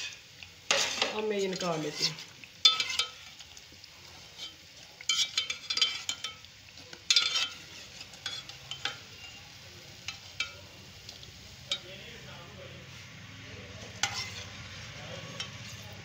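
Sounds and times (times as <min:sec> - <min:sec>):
metal utensil scraping a pan: 0:00.0 - 0:12.2, 0:12.9 - 0:16.0
faint frying sizzle: 0:00.0 - 0:16.0.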